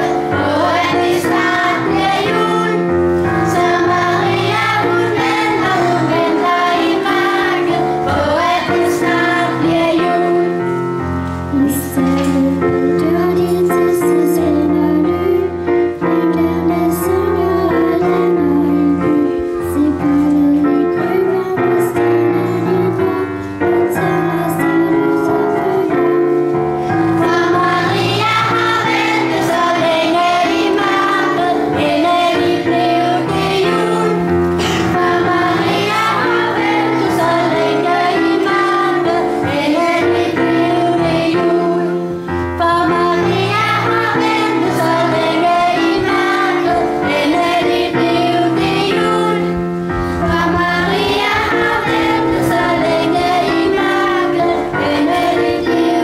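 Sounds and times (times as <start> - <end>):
children singing together: 0.0 - 56.0
piano accompaniment: 0.0 - 56.0.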